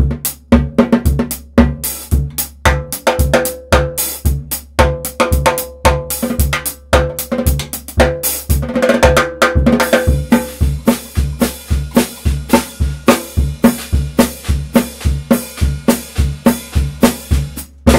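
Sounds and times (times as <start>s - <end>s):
drum kit groove: 0.0s - 17.9s.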